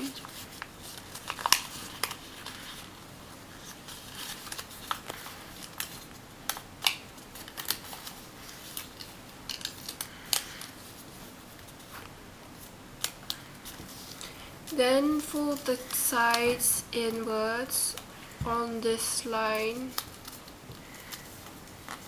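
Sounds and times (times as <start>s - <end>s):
paper folding crackles: 0.0s - 22.0s.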